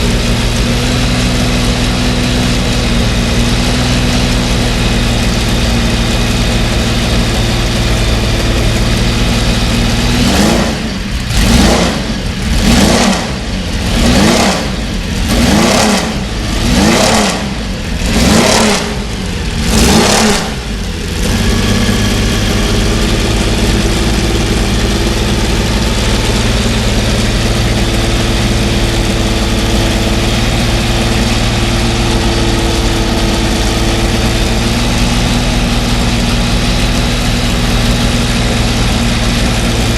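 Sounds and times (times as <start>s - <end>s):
racing engine idling and revving: 0.0s - 39.9s.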